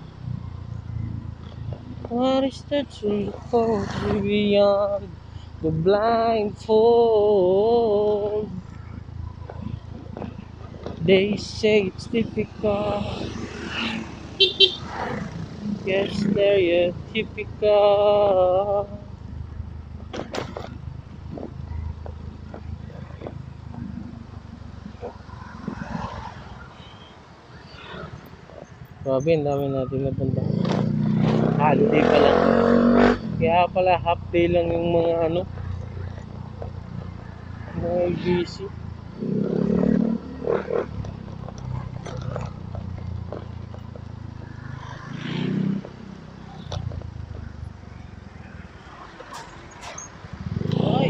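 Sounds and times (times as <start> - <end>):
motorcycle engine rumble: 0.0 - 51.0
road noise: 0.0 - 51.0.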